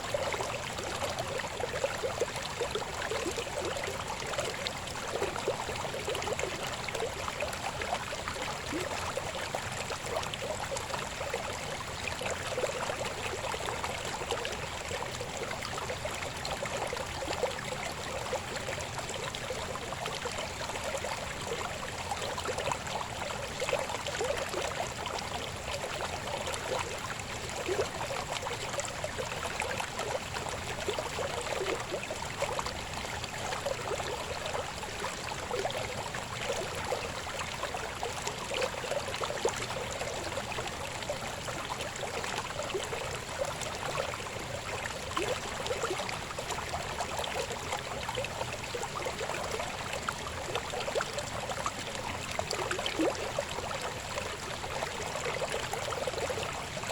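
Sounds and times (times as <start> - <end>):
babbling river: 0.0 - 56.9.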